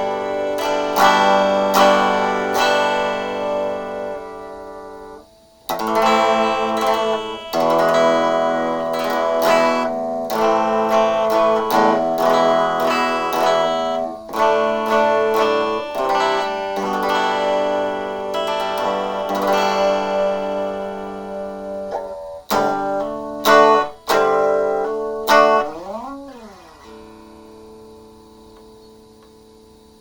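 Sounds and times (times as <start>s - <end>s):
electric guitar strumming chords: 0.0s - 30.0s.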